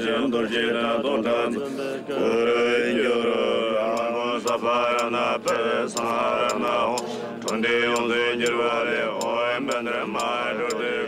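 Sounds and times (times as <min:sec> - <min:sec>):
monks chanting: 0:00.0 - 0:11.0.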